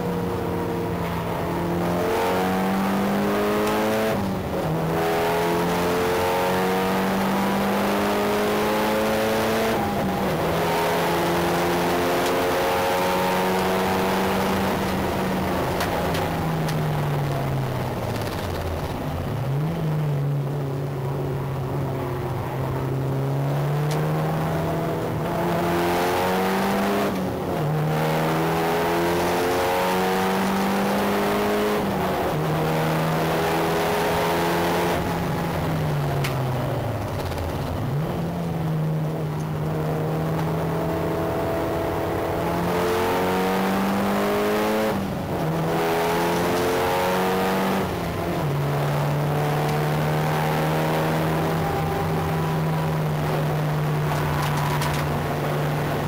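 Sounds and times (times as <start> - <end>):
car engine revving hard: 0.0 - 18.6, 22.8 - 56.0.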